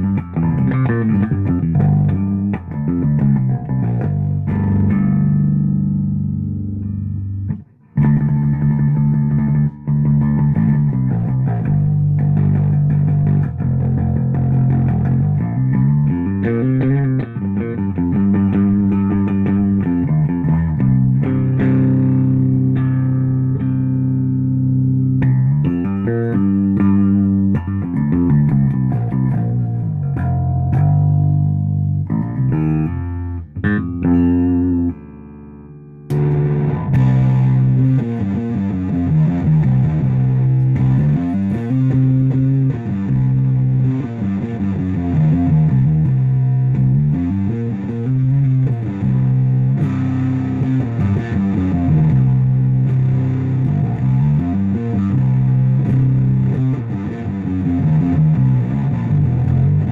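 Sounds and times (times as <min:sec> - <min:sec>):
plucked electric bass riff: 0:00.0 - 0:59.9.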